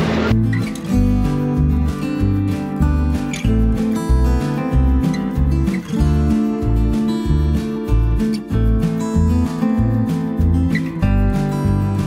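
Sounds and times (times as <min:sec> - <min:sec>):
steady bass line: 0:00.0 - 0:12.0
strummed acoustic guitar: 0:00.0 - 0:12.0.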